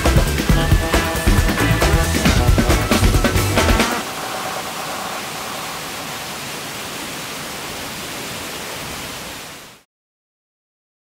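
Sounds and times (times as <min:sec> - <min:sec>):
waterfall rushing: 0:00.4 - 0:09.8.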